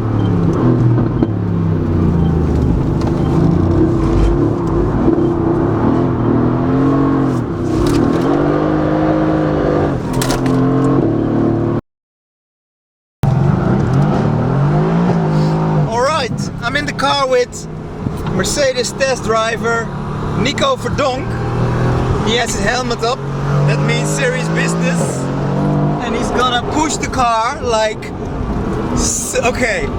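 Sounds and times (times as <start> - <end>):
car engine revving: 0.0 - 11.8, 13.2 - 29.9.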